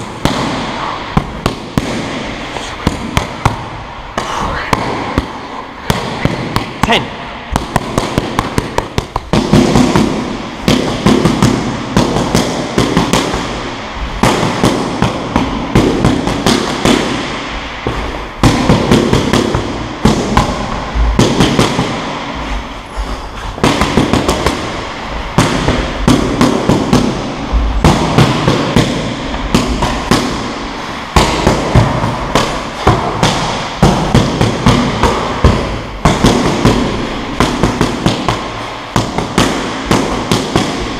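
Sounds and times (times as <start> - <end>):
boxing gloves smacking mitts: 0.0 - 22.7, 23.5 - 40.9.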